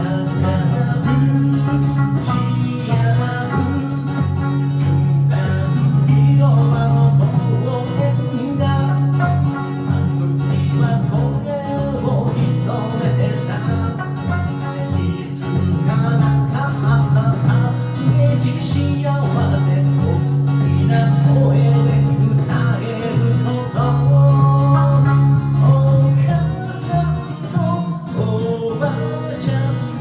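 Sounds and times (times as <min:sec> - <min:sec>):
low bass pattern: 0:00.0 - 0:30.0
plucked string melody: 0:00.0 - 0:30.0.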